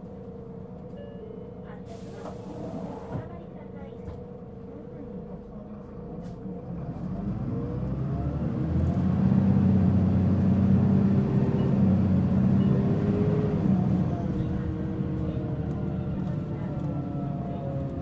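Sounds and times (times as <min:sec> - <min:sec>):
bus diesel engine accelerating: 0:01.6 - 0:18.0.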